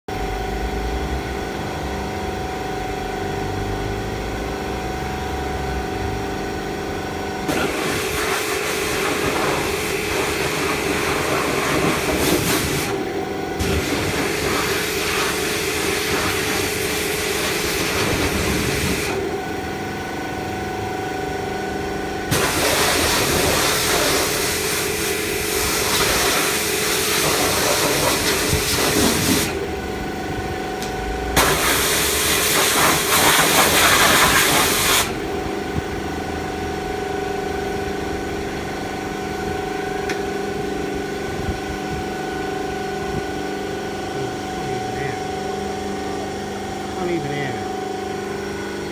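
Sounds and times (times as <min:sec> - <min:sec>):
car wash machinery humming: 0:00.1 - 0:48.9.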